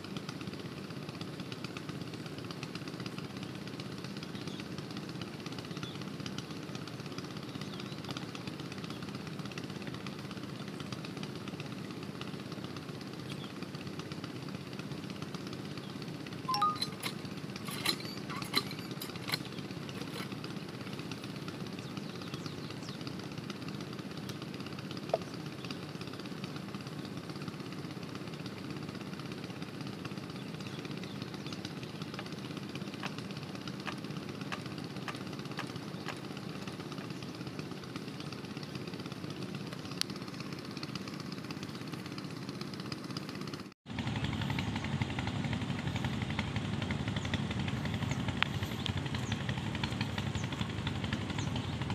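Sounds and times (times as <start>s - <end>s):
water pump engine running: 0.0s - 51.9s.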